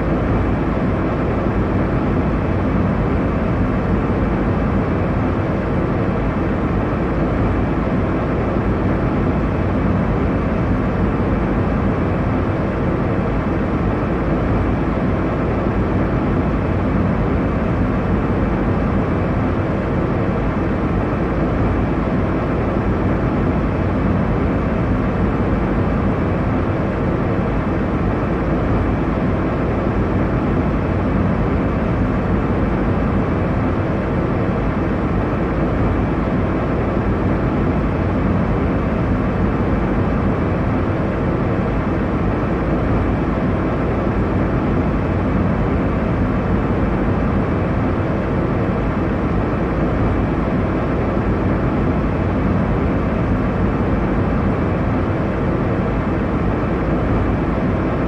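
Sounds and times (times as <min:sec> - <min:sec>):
airliner cabin engine rush: 0:00.0 - 0:58.0.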